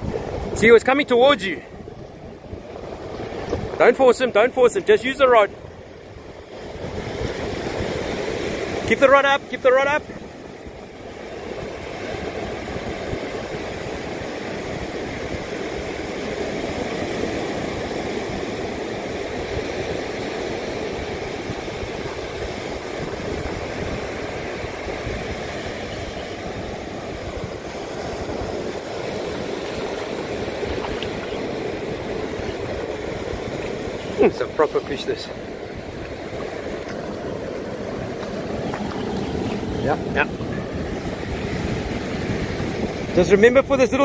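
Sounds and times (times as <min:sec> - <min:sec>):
wind on microphone: 0:00.0 - 0:09.0, 0:10.0 - 0:44.0
surf breaking on beach: 0:00.0 - 0:44.0.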